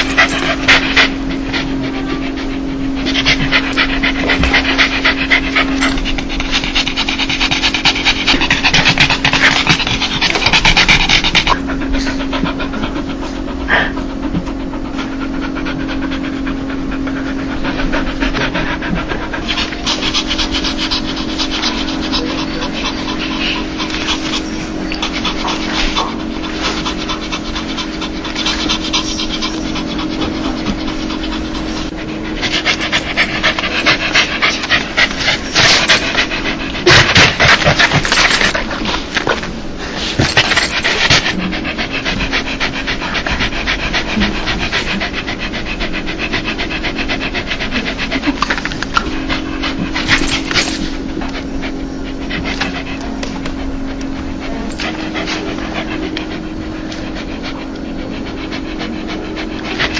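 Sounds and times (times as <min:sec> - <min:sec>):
dog panting: 0:00.0 - 0:59.9.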